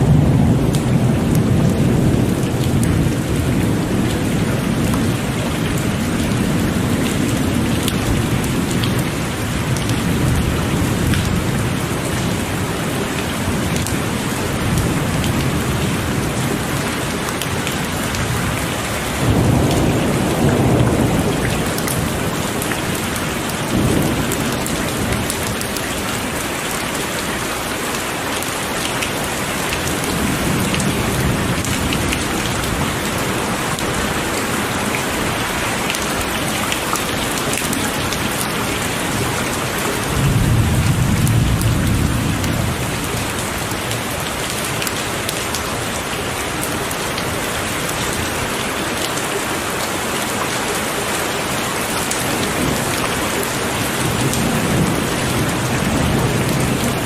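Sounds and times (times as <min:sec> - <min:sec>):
thunder rumbling: 0:00.0 - 0:26.6, 0:29.3 - 0:48.6, 0:52.1 - 0:57.0
heavy rain falling: 0:00.0 - 0:57.0.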